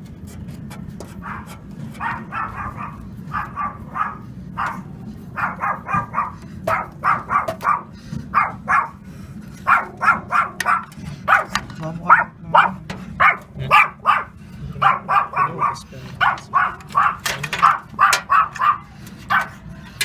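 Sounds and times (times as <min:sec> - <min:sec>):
steady low hum: 0:00.0 - 0:20.0
dog barking: 0:01.2 - 0:09.0, 0:09.6 - 0:19.8.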